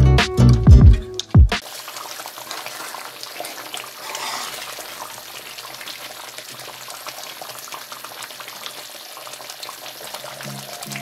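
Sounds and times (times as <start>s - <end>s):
thick gravy bubbling: 1.6s - 11.0s.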